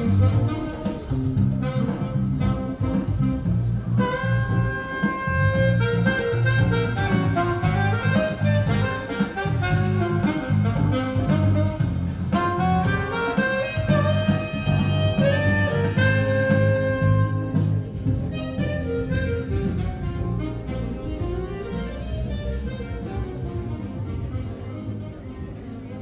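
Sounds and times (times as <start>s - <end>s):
pulsing bass: 0.0s - 25.6s
saxophone jazz melody: 0.0s - 26.0s.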